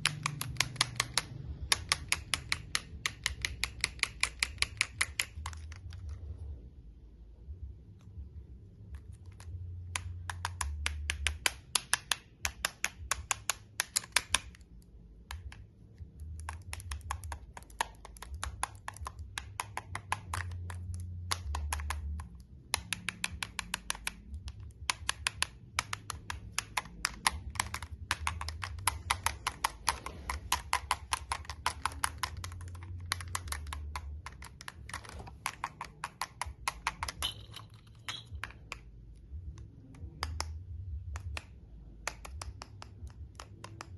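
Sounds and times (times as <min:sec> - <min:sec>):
sensory toy clicking: 0:00.0 - 0:06.2, 0:08.9 - 0:43.9.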